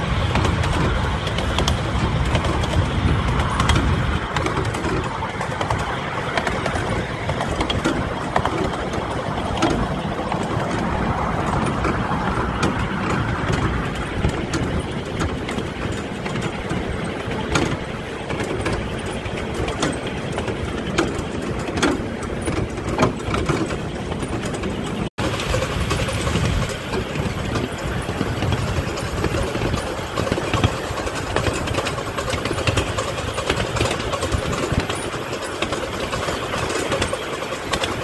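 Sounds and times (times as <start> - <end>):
sharp clicks and knocks: 0.0 - 38.0
wheels rumbling on track: 0.0 - 38.0.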